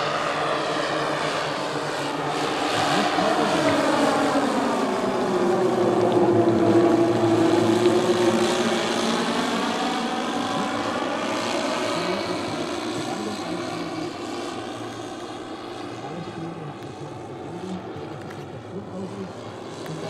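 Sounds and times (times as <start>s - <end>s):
model aircraft engines droning: 0.0s - 20.0s.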